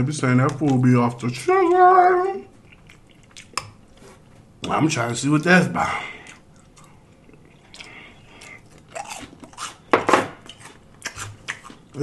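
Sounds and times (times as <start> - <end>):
chewing crispy food: 0.2 - 4.8, 5.4 - 12.0.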